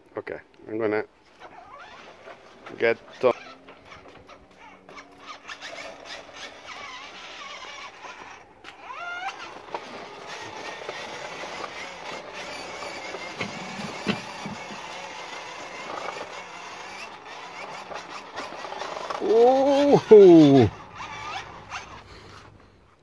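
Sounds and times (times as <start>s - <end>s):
toy motorbike rolling on pavers: 1.2s - 23.0s.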